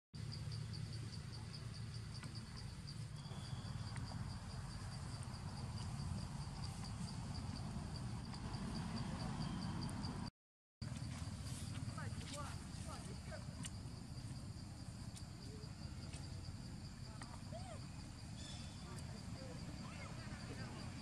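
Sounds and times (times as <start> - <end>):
insect chirping: 0.2 - 21.0.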